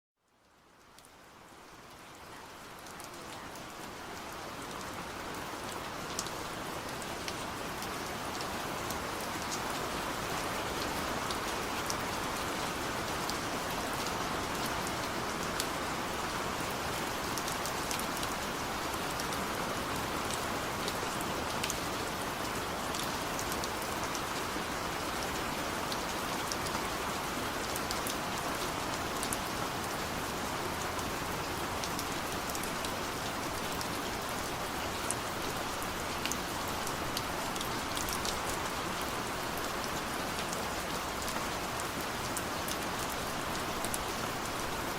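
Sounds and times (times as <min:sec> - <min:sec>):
steady rain hiss: 0:00.2 - 0:44.9.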